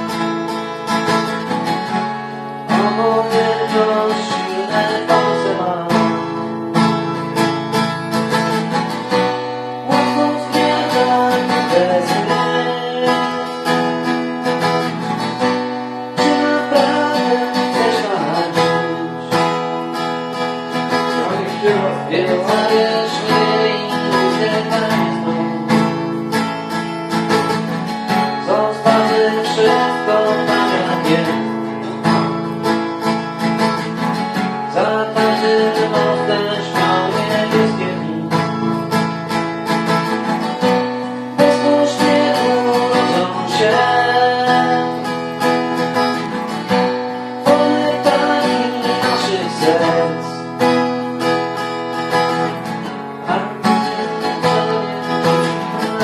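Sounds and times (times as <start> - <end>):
acoustic guitar plucked and strummed: 0.0 - 56.0.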